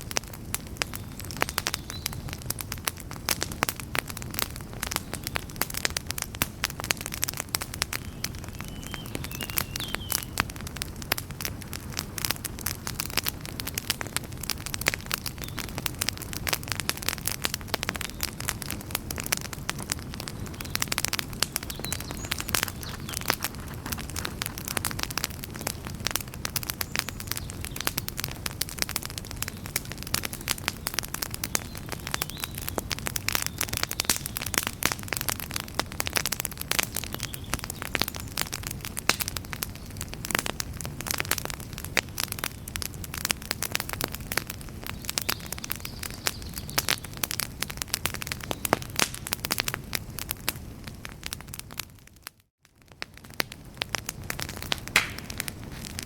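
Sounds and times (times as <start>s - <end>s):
campfire crackling and popping: 0.0s - 56.0s
low rumble of burning fire: 0.0s - 56.0s.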